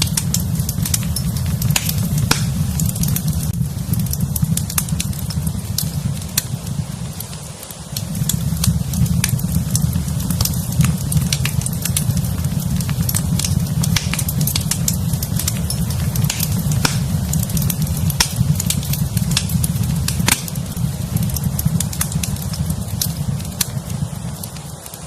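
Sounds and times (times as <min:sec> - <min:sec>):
low rumble: 0:00.0 - 0:24.6
wood fire crackling and popping: 0:00.0 - 0:25.0.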